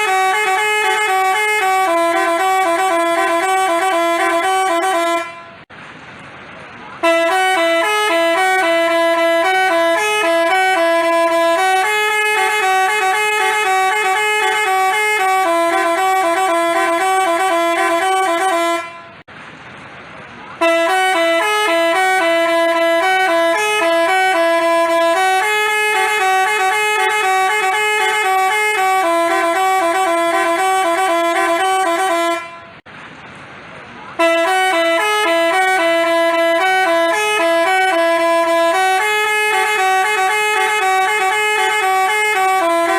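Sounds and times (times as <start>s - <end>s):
musical bus horn playing a tune: 0.0s - 5.7s, 7.0s - 19.3s, 20.6s - 32.9s, 34.2s - 42.9s.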